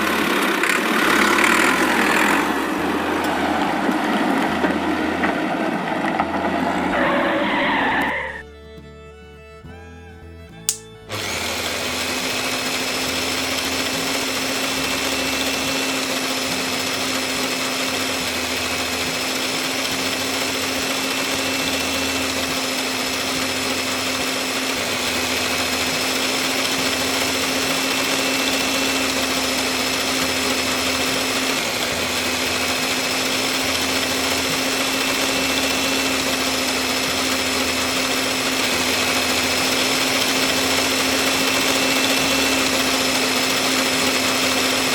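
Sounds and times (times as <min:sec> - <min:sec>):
small motor humming: 0:00.0 - 0:44.9.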